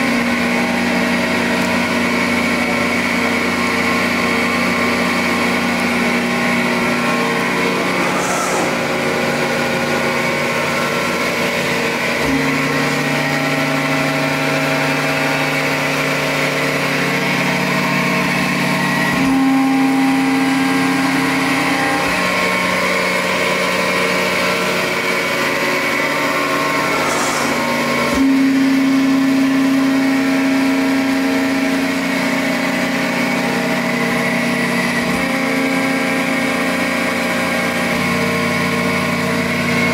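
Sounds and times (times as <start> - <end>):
hydraulic pump motor humming: 0.0 - 39.9.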